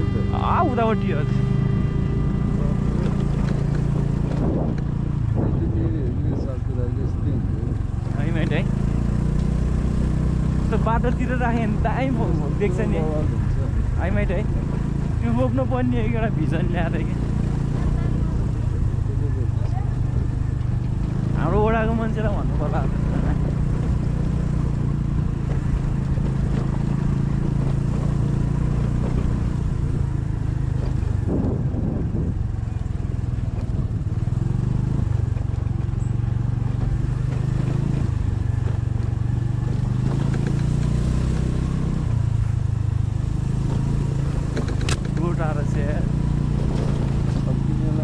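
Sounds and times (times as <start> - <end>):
vehicle engine and road rumble: 0.0 - 48.0.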